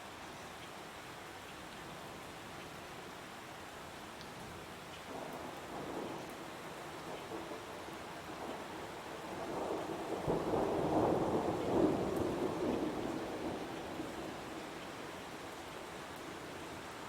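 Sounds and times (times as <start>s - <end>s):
heavy rain falling: 3.2s - 17.0s.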